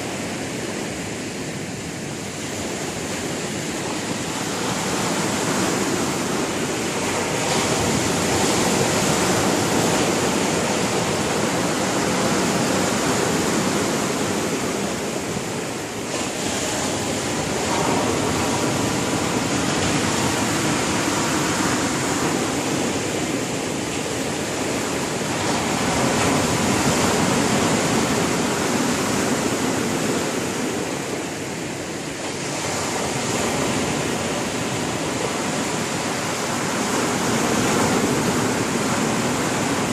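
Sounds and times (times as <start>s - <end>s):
waves breaking on the shore: 0.0s - 39.9s.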